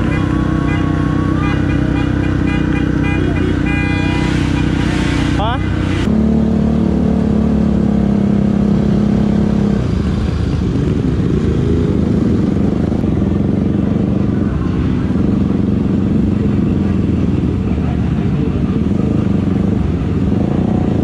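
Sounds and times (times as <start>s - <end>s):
motorcycle engine running: 0.0s - 21.0s
other motorcycles nearby: 0.0s - 21.0s.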